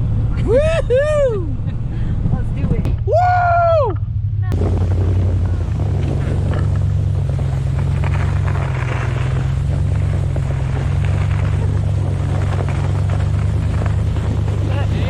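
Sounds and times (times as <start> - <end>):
sleds rushing over snow: 0.0 - 15.0
truck engine running: 0.0 - 15.0.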